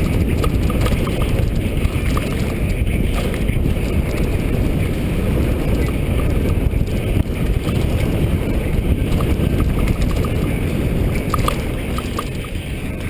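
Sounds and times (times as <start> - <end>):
bike rattling over dirt: 0.0 - 13.0.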